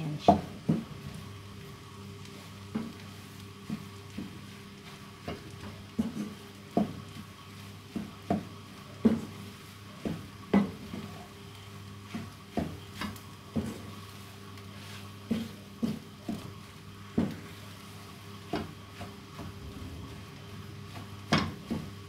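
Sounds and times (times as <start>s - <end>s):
steady low hum: 0.0s - 22.0s
wooden spatula scraping frying pan: 2.3s - 11.3s, 12.0s - 22.0s.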